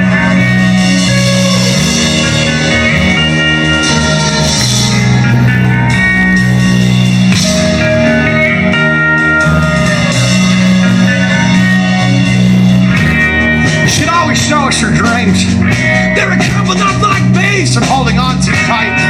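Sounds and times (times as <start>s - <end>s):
bass guitar sustained notes: 0.0s - 19.0s
electric guitar: 0.0s - 19.0s
steady drum beat: 0.0s - 19.0s.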